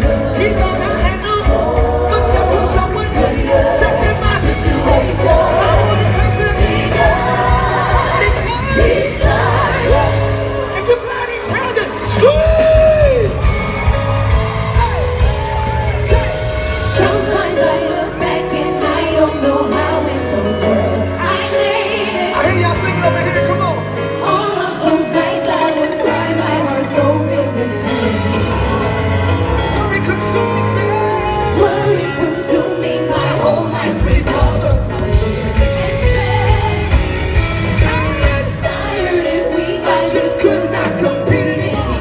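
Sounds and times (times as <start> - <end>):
live gospel band music: 0.0 - 42.0
people singing: 0.0 - 42.0.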